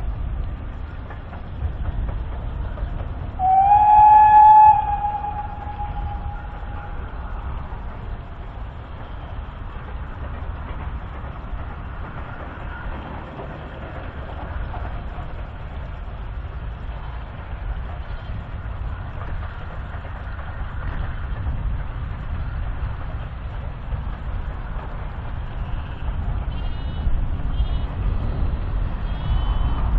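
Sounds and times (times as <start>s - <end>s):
distant steam train running: 0.0s - 29.9s
wind rumble on microphone: 0.0s - 29.9s.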